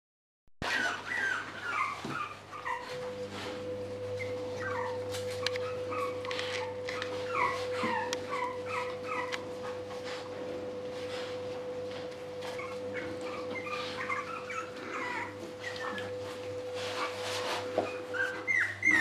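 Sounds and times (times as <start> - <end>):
puppies whimpering: 0.6 - 3.2, 4.0 - 10.3, 12.4 - 19.0
steady hum: 2.4 - 19.0.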